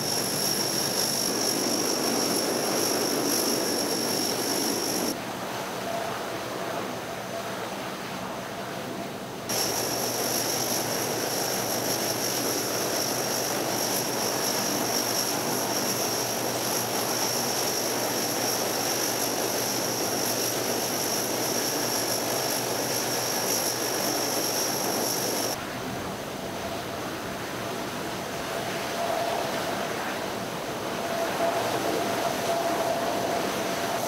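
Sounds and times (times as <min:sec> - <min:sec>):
high-pitched engine whine: 0:00.0 - 0:07.8, 0:09.5 - 0:25.7, 0:26.6 - 0:34.0
turboprop engines droning: 0:00.0 - 0:34.0.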